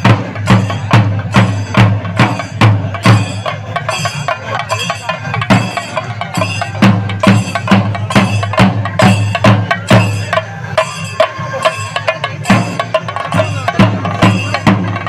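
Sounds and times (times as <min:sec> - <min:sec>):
cymbals beating: 0:00.0 - 0:15.0
drums beating: 0:00.0 - 0:15.0.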